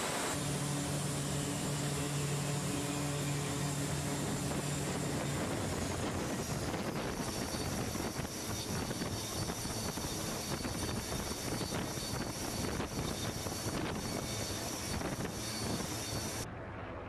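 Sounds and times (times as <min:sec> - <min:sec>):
low hum: 0:00.0 - 0:17.0
turboprop engines droning: 0:00.0 - 0:17.0.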